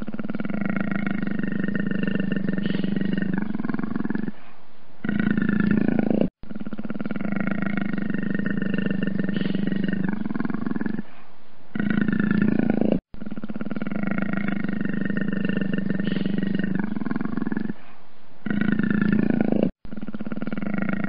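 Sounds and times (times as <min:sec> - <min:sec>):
leopard growling: 0:00.0 - 0:04.4, 0:05.0 - 0:11.1, 0:11.7 - 0:17.8, 0:18.4 - 0:21.0.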